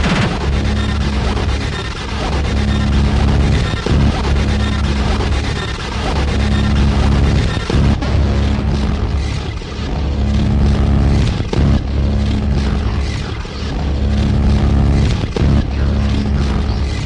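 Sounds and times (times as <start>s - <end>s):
hardcore techno music: 0.0s - 17.0s.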